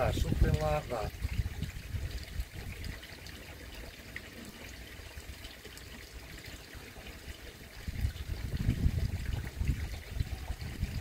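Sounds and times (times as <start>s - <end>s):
pond water trickling: 0.0s - 11.0s.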